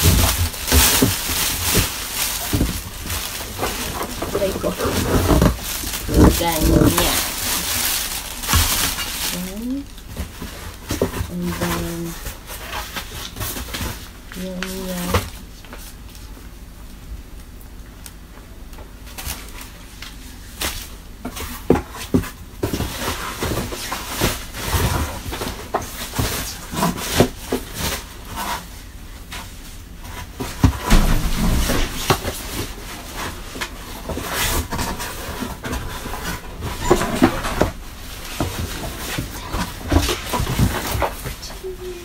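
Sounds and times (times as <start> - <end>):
cardboard and plastic rustling: 0.0 - 16.9, 18.2 - 42.0.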